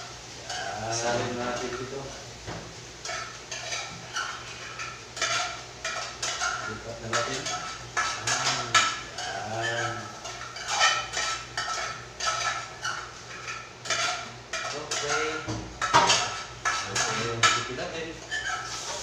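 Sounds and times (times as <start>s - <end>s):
metal utensil scraping frying pan: 2.9s - 19.0s.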